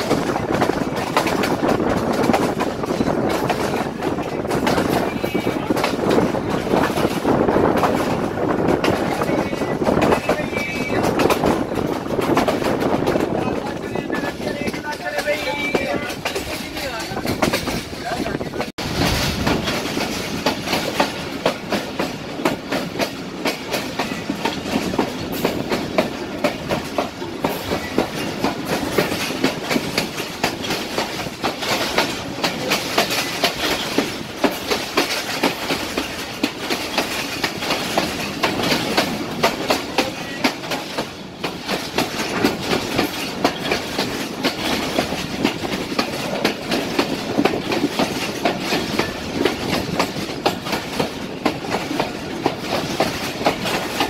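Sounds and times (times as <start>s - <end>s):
train rumble: 0.0s - 54.0s
train wheels clacking over rail joints: 0.0s - 54.0s.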